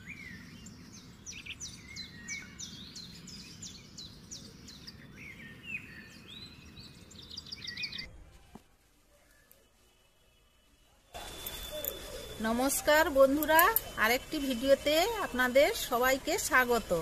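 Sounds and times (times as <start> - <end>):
birds chirping and trilling: 0.0 - 8.1, 10.2 - 17.0.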